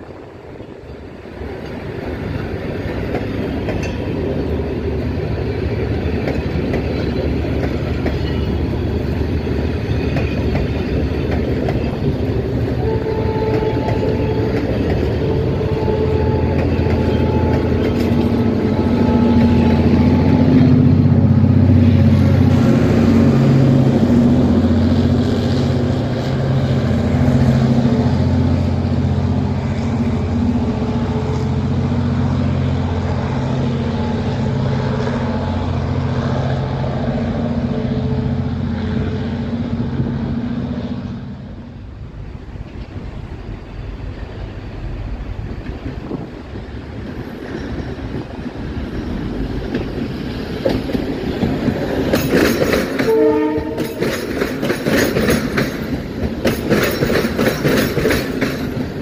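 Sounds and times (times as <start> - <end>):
diesel locomotive engine running: 0.0 - 59.0
train wheels rolling on rails: 0.0 - 59.0.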